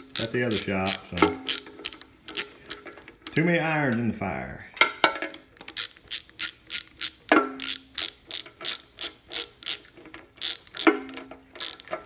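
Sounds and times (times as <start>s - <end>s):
socket ratchet clicking: 0.0s - 3.4s, 5.3s - 12.0s.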